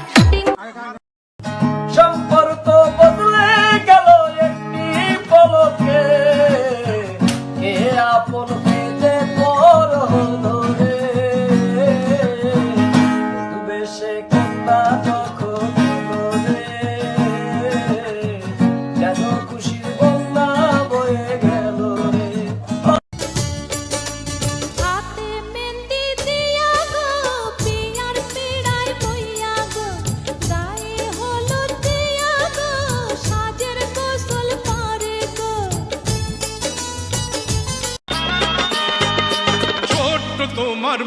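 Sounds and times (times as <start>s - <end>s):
slow song with plucked guitar: 1.4s - 40.4s.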